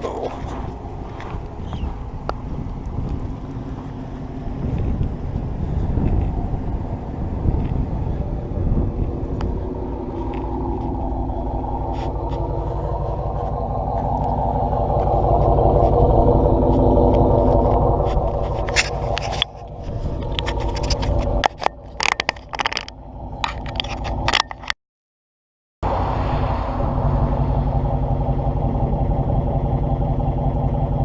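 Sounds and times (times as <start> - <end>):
car engine droning: 0.0 - 24.8, 25.8 - 31.0.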